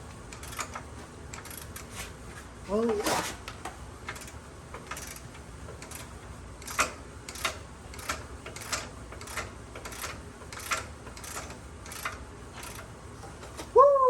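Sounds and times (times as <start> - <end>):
hand ratchet clicking: 0.3 - 2.1, 3.5 - 13.6.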